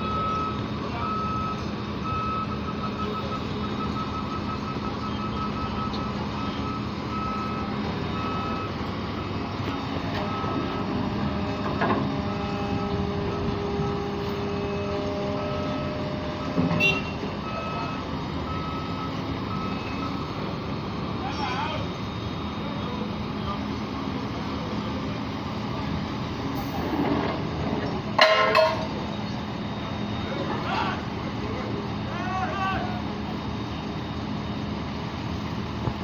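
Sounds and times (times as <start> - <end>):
reversing alarm beeping: 0.0 - 35.8
engine running: 0.0 - 36.0.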